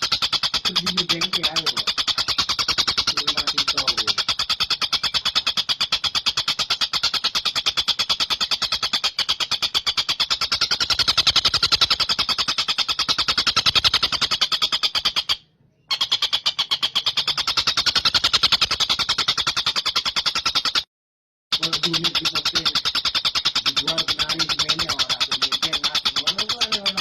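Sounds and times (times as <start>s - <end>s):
bird trilling: 0.0s - 20.9s, 21.5s - 27.0s.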